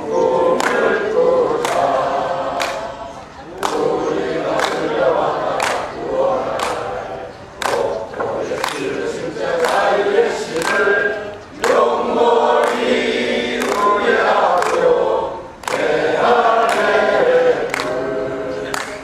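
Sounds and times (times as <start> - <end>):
group of adults singing: 0.0 - 19.0.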